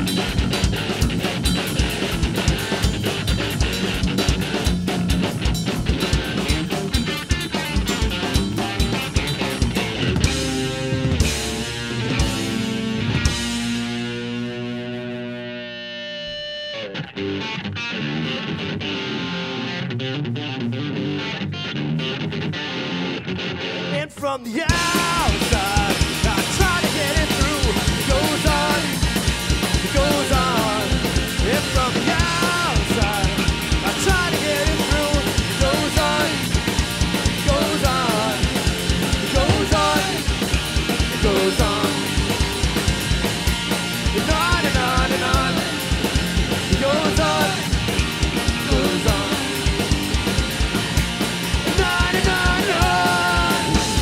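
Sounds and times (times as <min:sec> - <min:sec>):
drum kit beat: 0:00.0 - 0:14.5, 0:24.6 - 0:54.0
rock band playing live: 0:00.0 - 0:54.0
sparse electric guitar: 0:00.0 - 0:54.0.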